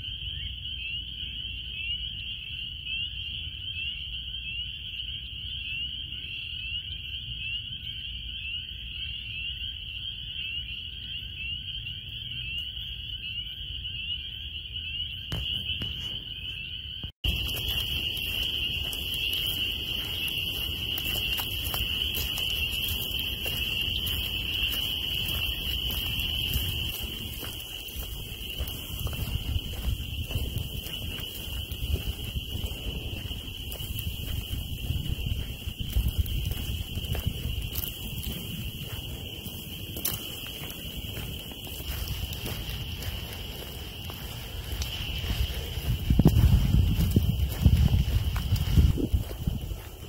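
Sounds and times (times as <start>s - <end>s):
frogs chorus trilling: 0.0s - 50.0s.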